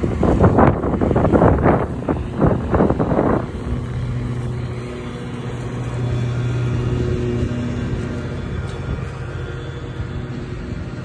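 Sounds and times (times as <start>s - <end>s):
steady engine hum: 0.0s - 11.0s
wind buffeting microphone: 0.0s - 11.0s.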